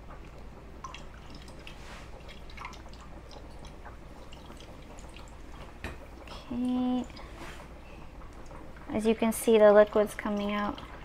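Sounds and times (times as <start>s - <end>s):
liquid dripping through strainer: 0.1s - 7.4s, 8.1s - 11.0s.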